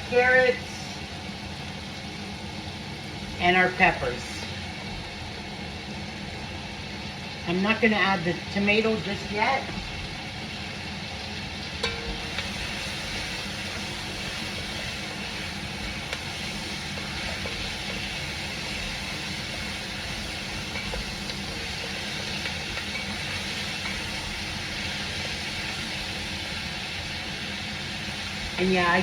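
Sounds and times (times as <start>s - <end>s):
vegetables sizzling in a pot: 0.0s - 29.0s.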